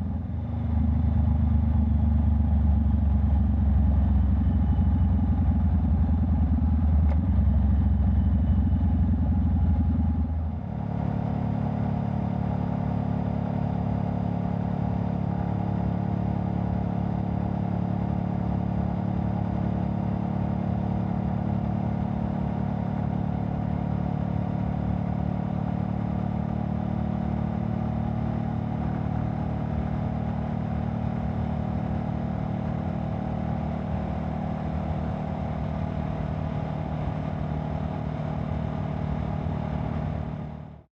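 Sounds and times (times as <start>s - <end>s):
motorcycle engine running: 0.0s - 40.8s.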